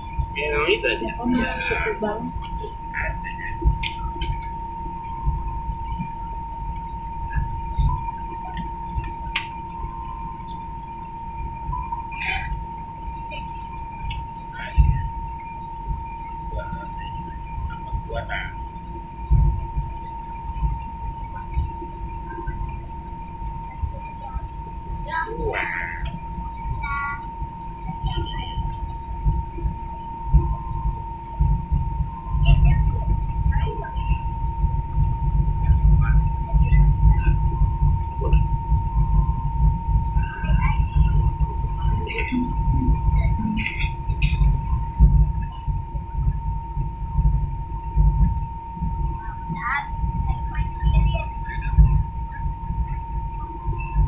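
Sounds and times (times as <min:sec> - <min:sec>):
airliner cabin rumble: 0:00.0 - 0:54.0
steady high whine: 0:00.0 - 0:54.0.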